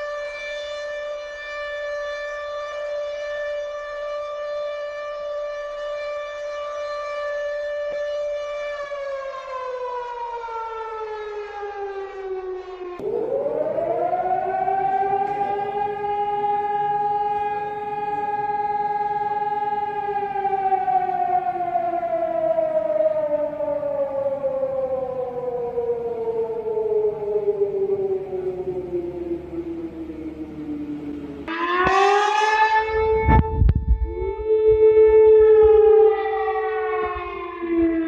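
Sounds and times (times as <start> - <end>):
siren wailing: 0.0 - 38.0.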